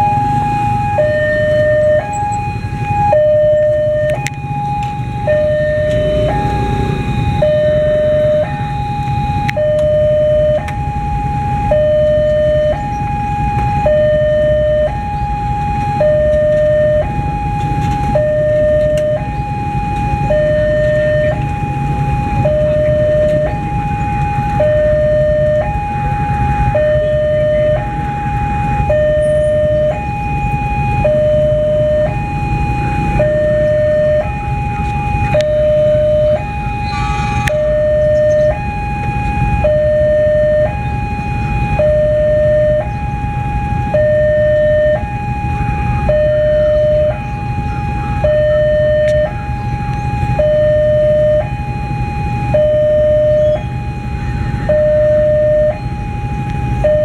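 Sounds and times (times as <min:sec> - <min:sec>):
low rumble: 0:00.0 - 0:57.0
two-tone crossing alarm: 0:00.0 - 0:57.0.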